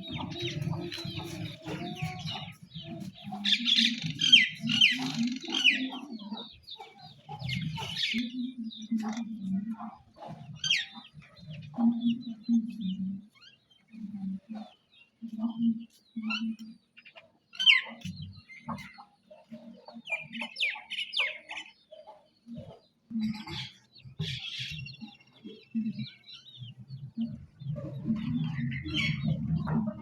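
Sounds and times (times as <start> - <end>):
chicks peeping: 0.0 - 30.0
hens clucking: 0.0 - 30.0.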